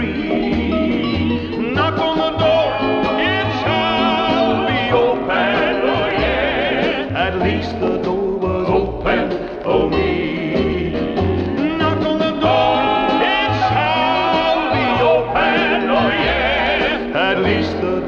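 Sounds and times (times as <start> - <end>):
band accompaniment with bass: 0.0 - 18.0
gospel vocal group singing: 0.0 - 18.0.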